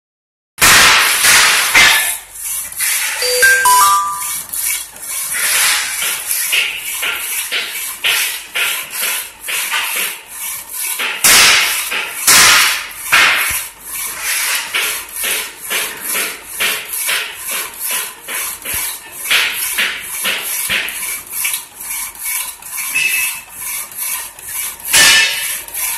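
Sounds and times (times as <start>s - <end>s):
power hacksaw cutting metal: 0.6s - 3.5s, 4.1s - 25.9s.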